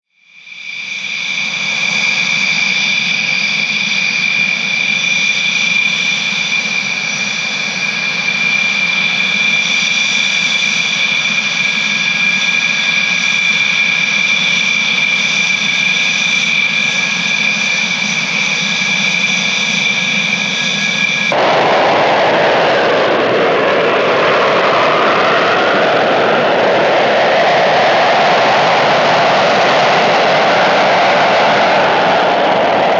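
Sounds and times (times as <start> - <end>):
jet engine whine: 0.2 - 32.9
jet engine roar: 0.4 - 32.9.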